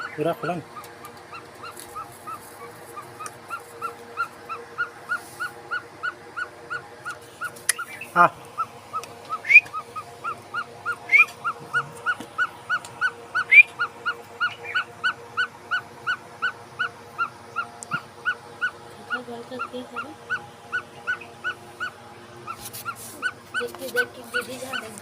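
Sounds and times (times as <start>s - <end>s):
baby bird chirping: 0.0s - 25.0s.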